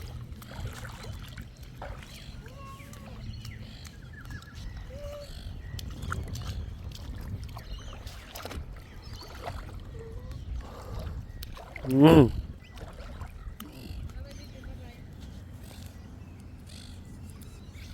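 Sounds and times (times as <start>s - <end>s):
water splashing: 0.0s - 14.9s
wind rumble on microphone: 0.0s - 17.9s.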